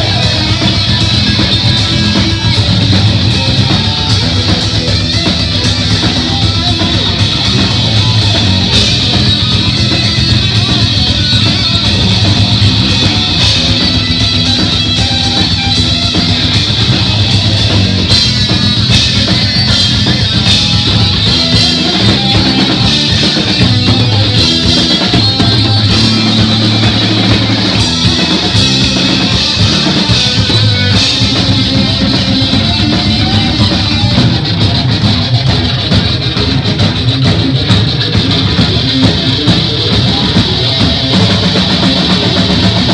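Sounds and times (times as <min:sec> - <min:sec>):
bass and drums: 0:00.0 - 0:42.9
distorted electric guitar: 0:00.0 - 0:42.9.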